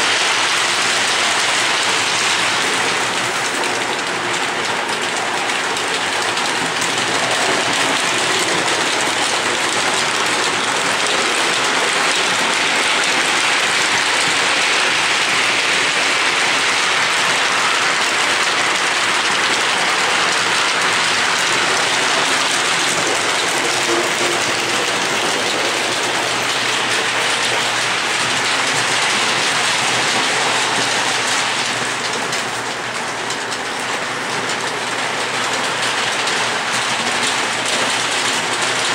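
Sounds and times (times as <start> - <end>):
model train wheels rattling on rails: 0.0 - 38.9.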